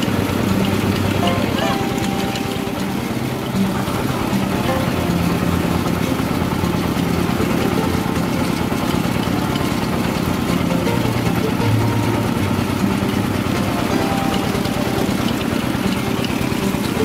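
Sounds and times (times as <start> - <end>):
milling machine droning: 0.0 - 17.0.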